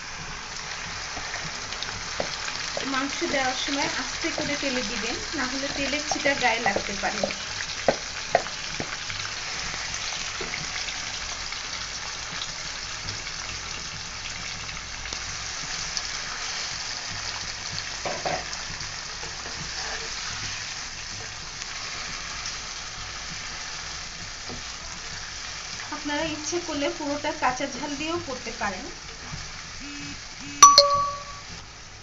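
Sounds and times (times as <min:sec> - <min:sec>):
meat sizzling in oil: 0:00.0 - 0:30.4, 0:31.5 - 0:32.0.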